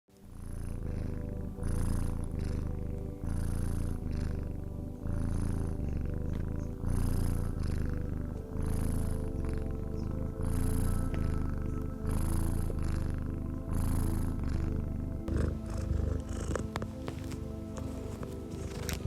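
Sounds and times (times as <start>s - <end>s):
cat purring: 0.1s - 19.0s.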